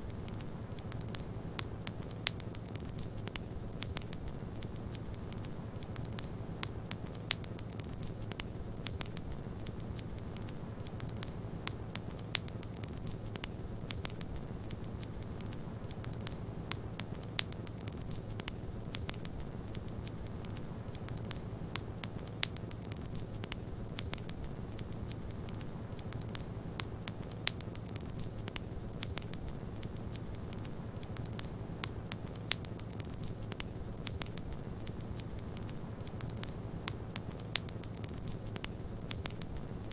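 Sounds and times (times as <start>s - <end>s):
wood fire crackling: 0.0s - 39.9s
sharp pops of fire: 0.1s - 39.9s.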